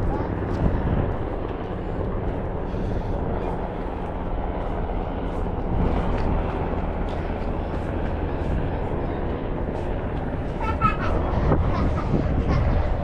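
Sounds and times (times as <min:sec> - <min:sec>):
helicopter engine and rotor rumble: 0:00.0 - 0:13.0
wind noise: 0:00.0 - 0:13.0.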